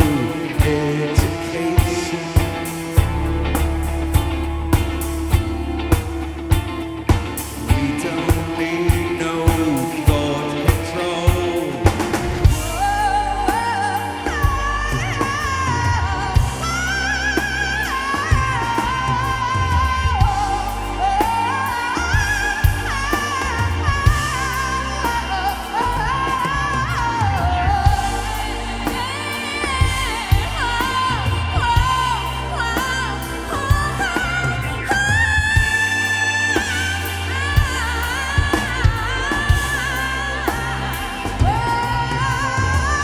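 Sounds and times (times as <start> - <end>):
rock music bass and drums: 0.0 - 43.0
wordless singing voice: 0.0 - 43.0.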